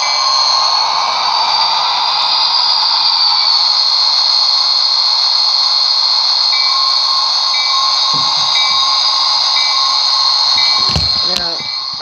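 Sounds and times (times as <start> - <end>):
model locomotive hissing running sound: 0.0 - 12.0.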